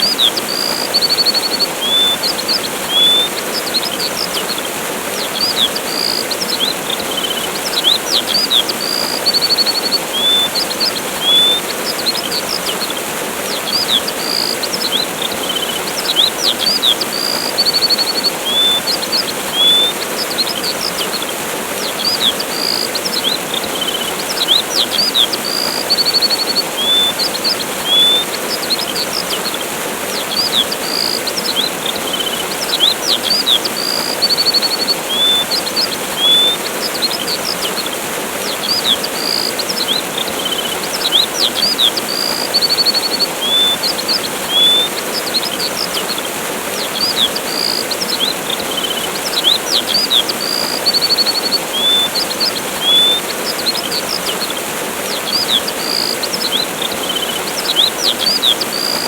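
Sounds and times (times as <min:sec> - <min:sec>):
songbirds chirping and trilling: 0:00.0 - 0:59.0
waterfall rushing: 0:00.0 - 0:59.0.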